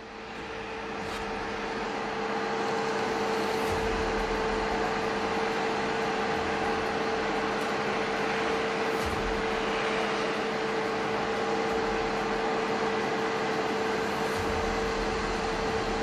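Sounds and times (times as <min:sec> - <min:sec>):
machine hum: 0:00.0 - 0:16.0
steady rushing noise: 0:00.0 - 0:16.0.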